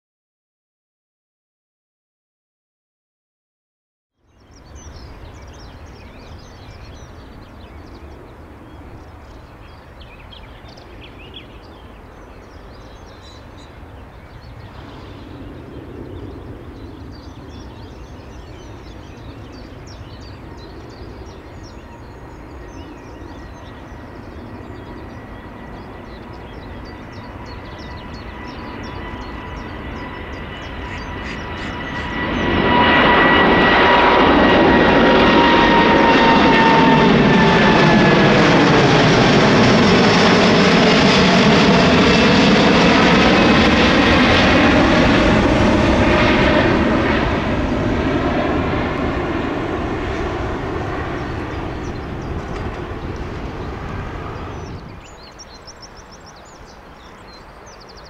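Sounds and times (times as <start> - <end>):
jet engine whine: 4.3 - 58.0
jet engines rumbling: 4.3 - 58.0.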